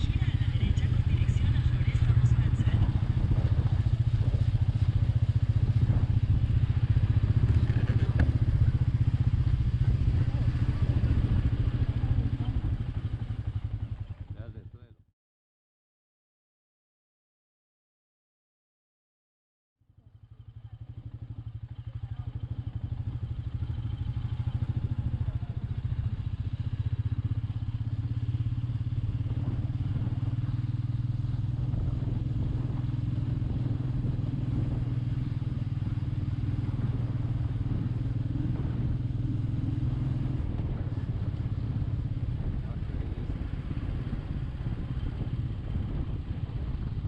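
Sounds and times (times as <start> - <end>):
motorcycle engine running: 0.0 - 15.0, 19.9 - 47.0.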